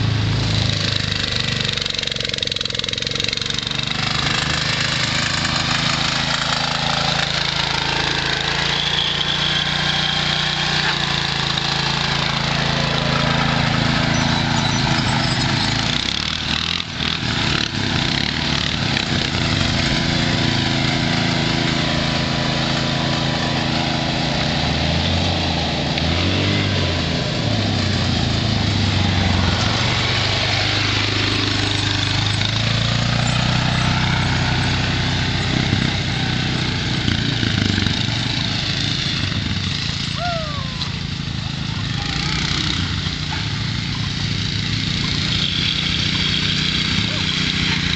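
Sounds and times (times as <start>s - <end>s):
small engines revving: 0.0s - 47.9s.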